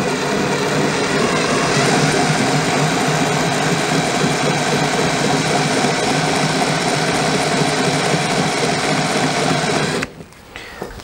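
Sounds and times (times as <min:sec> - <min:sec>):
cordless drill running slowly: 0:00.0 - 0:10.1.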